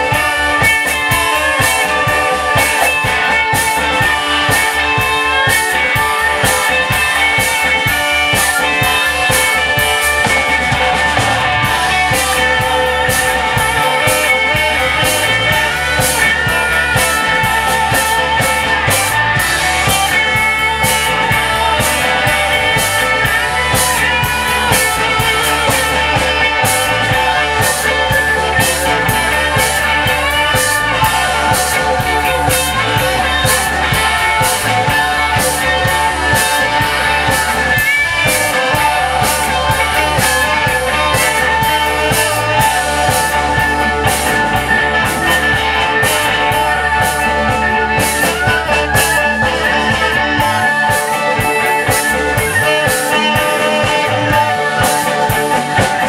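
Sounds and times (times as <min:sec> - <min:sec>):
driving drum beat: 0:00.0 - 0:56.0
live rock band playing: 0:00.0 - 0:56.0.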